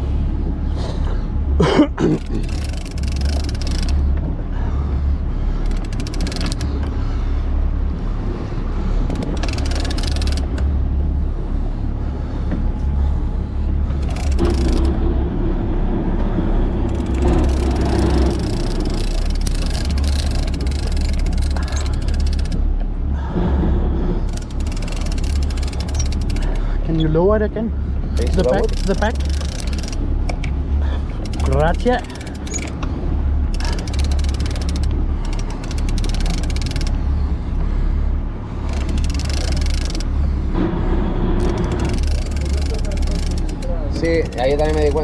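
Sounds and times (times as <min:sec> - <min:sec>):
boat engine humming: 0:00.0 - 0:45.0.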